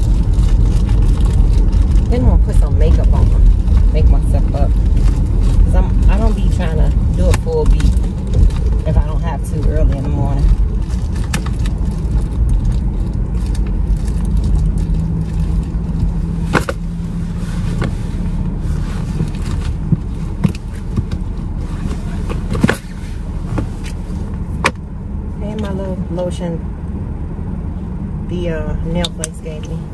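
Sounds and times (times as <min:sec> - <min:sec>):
rustling of rummaging: 0:00.0 - 0:24.6
car engine running: 0:00.0 - 0:29.9.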